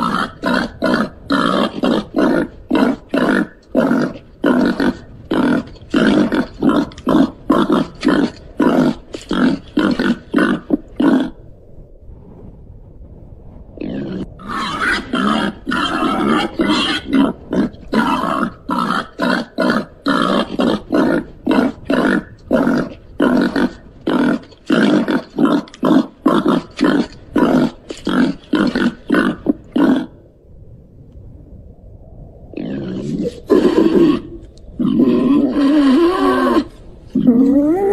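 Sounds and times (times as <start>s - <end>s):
pig grunting rapidly: 0.0s - 11.4s, 13.8s - 30.2s, 32.6s - 37.9s.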